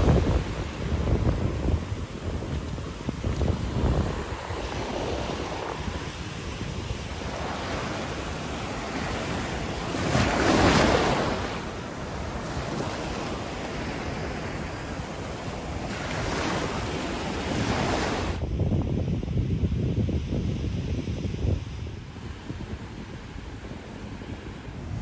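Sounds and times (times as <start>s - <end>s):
surf washing up sand: 0.0s - 18.4s, 21.8s - 25.0s
wind buffeting microphone: 0.0s - 25.0s.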